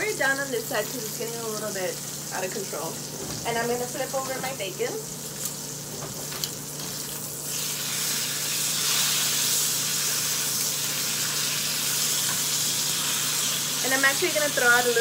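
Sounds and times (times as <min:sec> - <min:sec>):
bacon sizzling in oil: 0:00.0 - 0:15.0.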